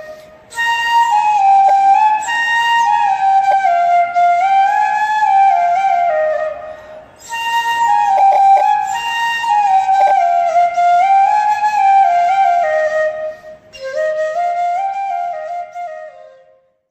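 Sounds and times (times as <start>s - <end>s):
solo wind instrument melody: 0.0s - 16.9s.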